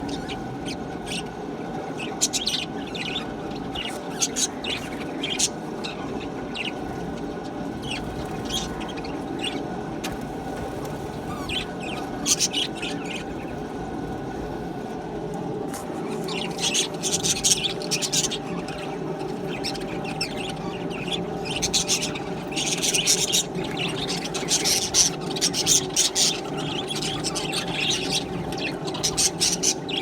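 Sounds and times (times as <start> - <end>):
budgerigars chirping: 0.0 - 1.2, 1.9 - 9.7, 11.1 - 13.7, 16.1 - 30.0.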